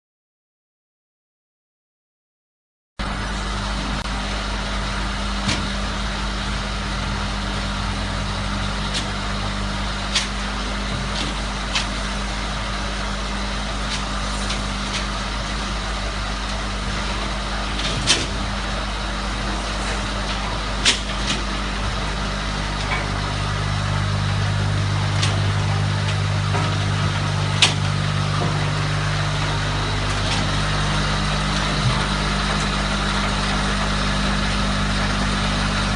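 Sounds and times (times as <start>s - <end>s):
thresher machine humming: 3.0s - 35.9s.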